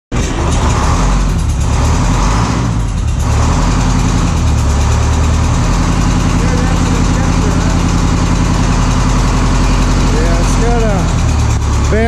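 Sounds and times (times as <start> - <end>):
diesel bus engine idling: 0.2 - 12.0.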